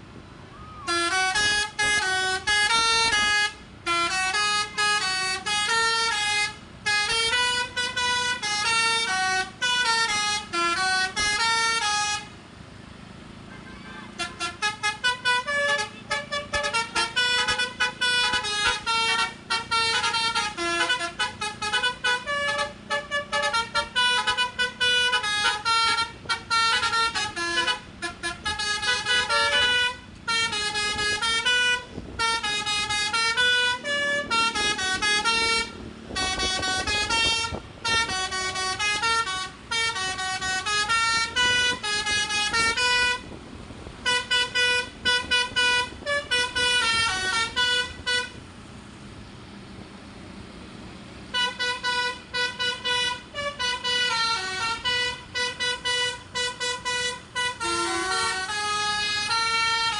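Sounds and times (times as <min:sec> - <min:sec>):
multi-tone musical air horn: 0:00.6 - 0:12.3, 0:13.5 - 0:43.4, 0:44.0 - 0:48.5, 0:51.3 - 0:59.9.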